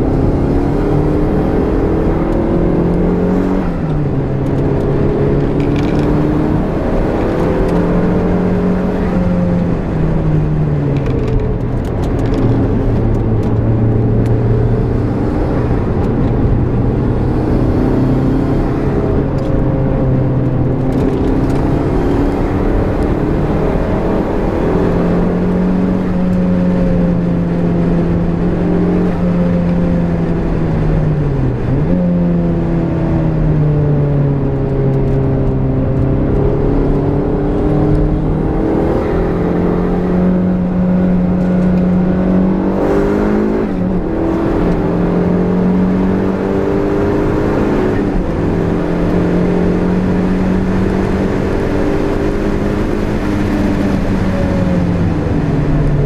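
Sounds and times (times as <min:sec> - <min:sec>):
car engine under hard driving: 0:00.0 - 0:56.0.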